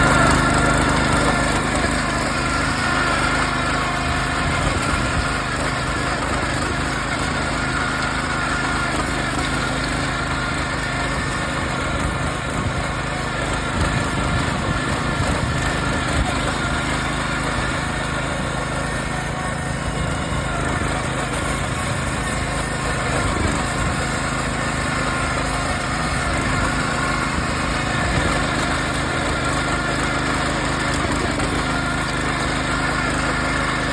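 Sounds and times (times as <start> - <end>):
tiller engine running: 0.0 - 33.9.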